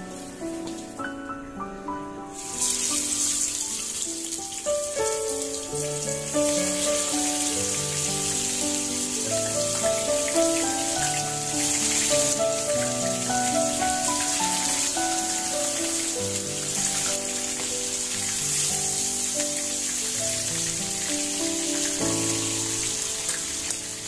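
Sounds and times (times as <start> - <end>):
instrumental background music: 0.0 - 24.0
chicken sizzling in hot oil: 2.4 - 24.0.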